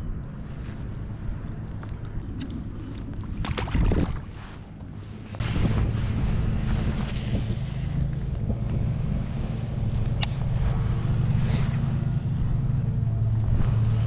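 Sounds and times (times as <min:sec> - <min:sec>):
boat motor humming: 0:00.0 - 0:14.0
wind rumble on microphone: 0:00.0 - 0:14.0.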